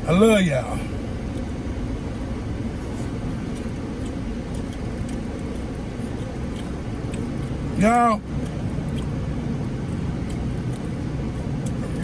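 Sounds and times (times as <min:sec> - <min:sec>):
outside traffic: 0:00.0 - 0:12.0
wind: 0:00.0 - 0:12.0.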